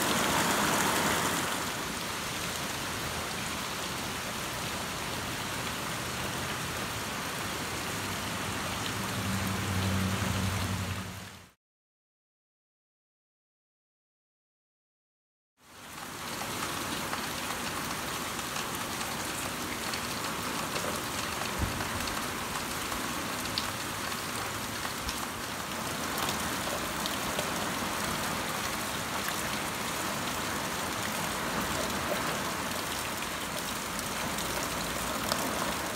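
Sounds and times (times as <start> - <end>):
steady rain on trees and lawn: 0.0 - 11.6, 15.6 - 35.9.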